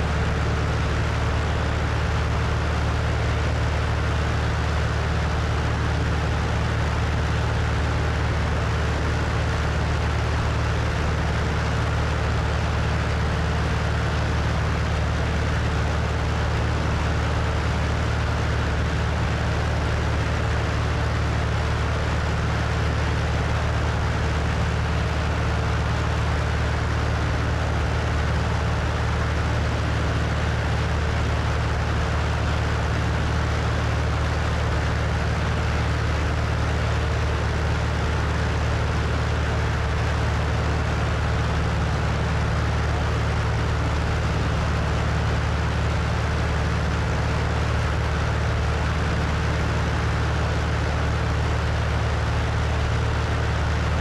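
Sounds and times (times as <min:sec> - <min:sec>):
airplane engine and propeller: 0:00.0 - 0:54.0.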